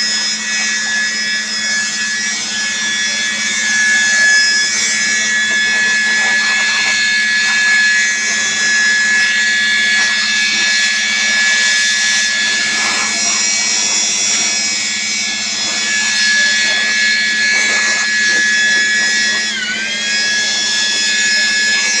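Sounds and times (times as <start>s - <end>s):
small electric motor whining: 0.0s - 22.0s.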